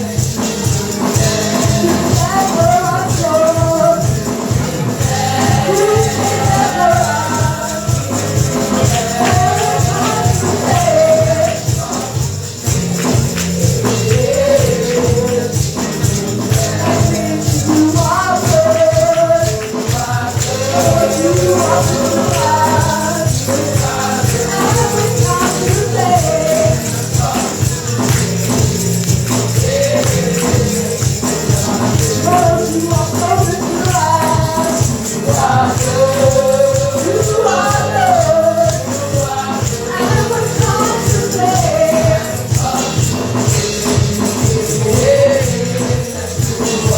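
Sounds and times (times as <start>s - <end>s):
band accompaniment: 0.0s - 46.9s
congregation singing gospel: 0.0s - 46.9s
tambourine: 0.0s - 46.9s.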